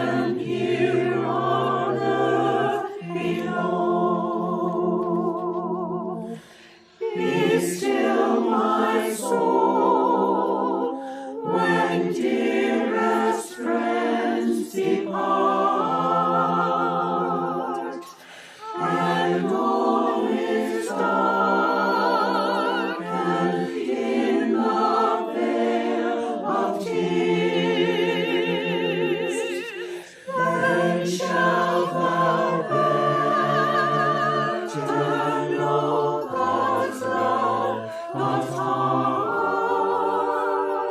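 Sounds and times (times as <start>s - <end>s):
small choir singing a hymn: 0.0s - 40.9s.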